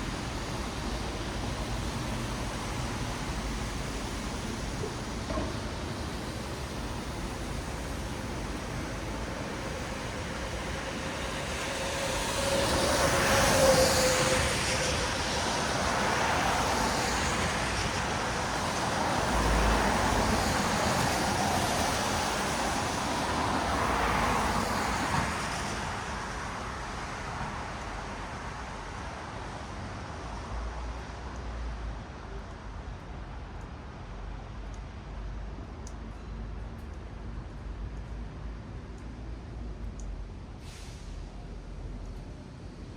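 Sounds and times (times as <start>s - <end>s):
tyres hissing on wet road: 0.0s - 34.4s, 39.4s - 42.9s.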